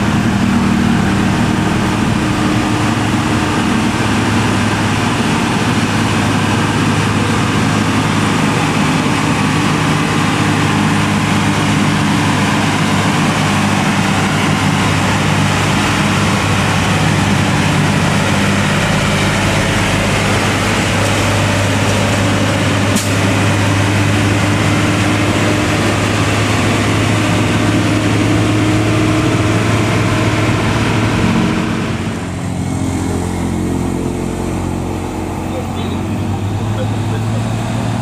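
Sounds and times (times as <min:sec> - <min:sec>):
truck diesel engine driving past: 0:00.0 - 0:38.0.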